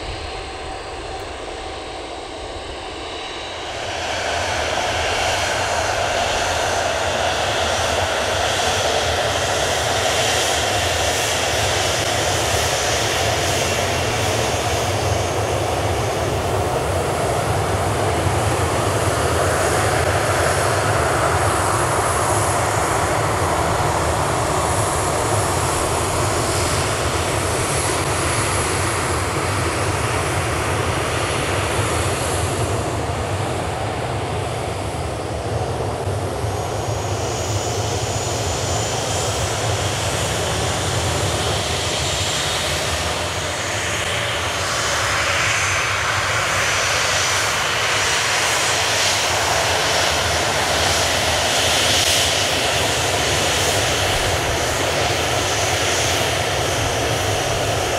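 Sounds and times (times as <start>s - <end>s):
jet engine rumble: 0.0s - 57.9s.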